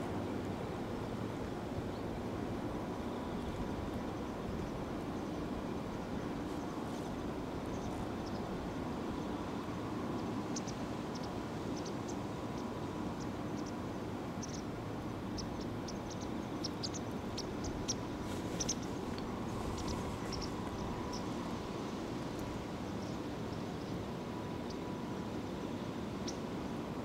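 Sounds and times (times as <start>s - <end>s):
outdoor background hum: 0.0s - 27.0s.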